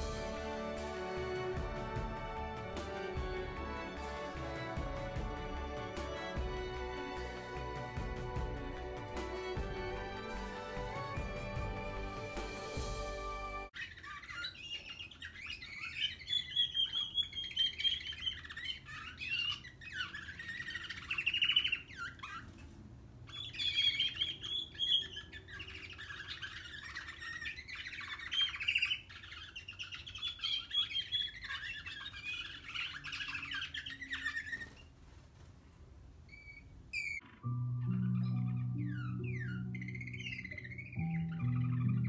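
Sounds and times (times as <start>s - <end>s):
canary warbling song: 0.0s - 35.0s, 36.3s - 42.0s.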